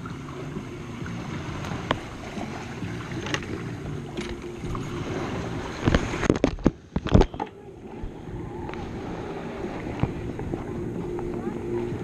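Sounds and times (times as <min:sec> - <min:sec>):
wind noise on microphone: 0:00.6 - 0:12.0.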